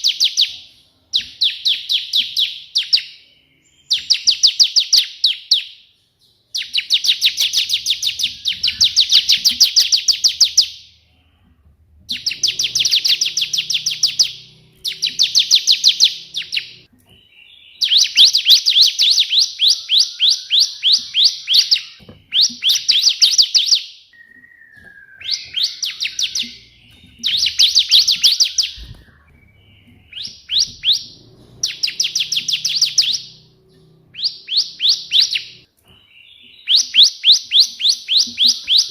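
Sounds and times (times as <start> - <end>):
bird singing rapid sharp notes: 0.0 - 11.5, 12.1 - 38.9.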